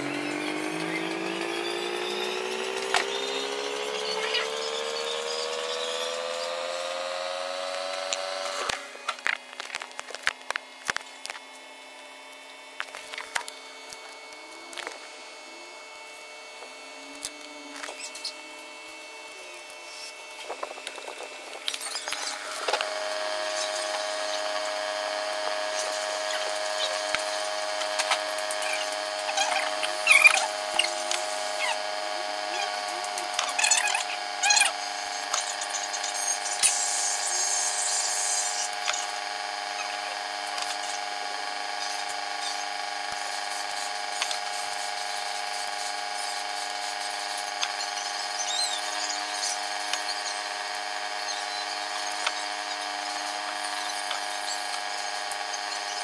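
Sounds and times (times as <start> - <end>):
motor hum with whine: 0.0 - 56.0.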